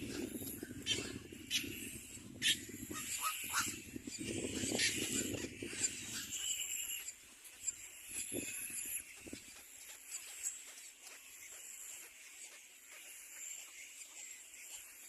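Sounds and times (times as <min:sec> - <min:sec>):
birds squeaking and chirping: 0:00.0 - 0:15.0.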